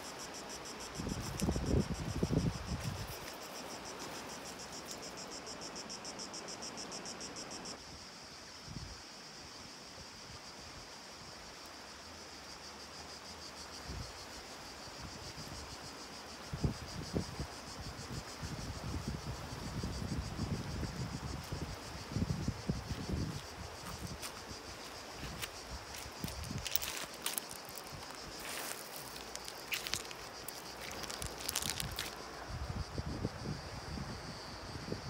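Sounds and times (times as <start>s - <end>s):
insect chorus buzzing: 0.0s - 35.0s.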